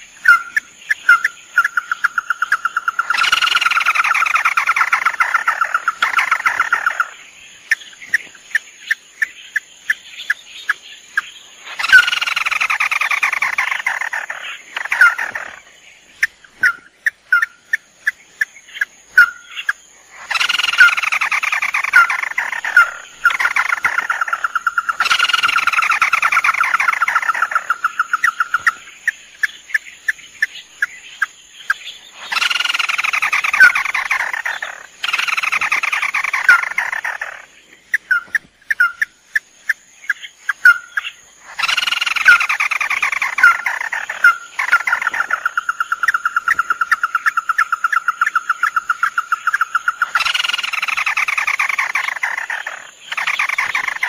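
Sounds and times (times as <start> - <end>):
crakes calling with rattling trills: 0.0 - 54.0.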